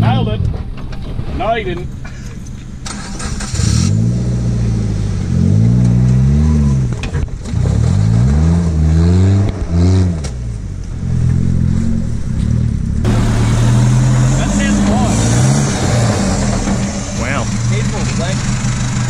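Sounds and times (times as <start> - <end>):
car engine revving under load: 2.8 - 19.0.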